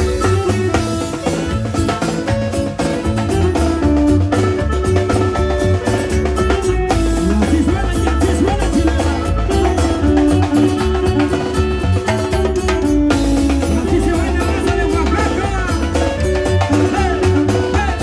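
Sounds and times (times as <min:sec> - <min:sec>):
band dance music: 0:00.0 - 0:18.0.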